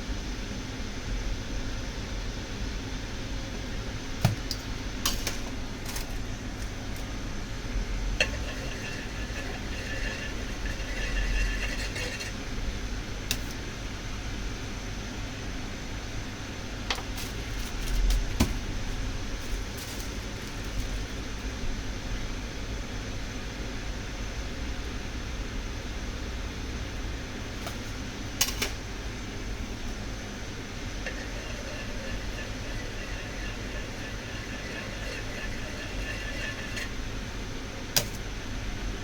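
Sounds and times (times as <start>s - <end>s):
background hum: 0.0s - 39.0s.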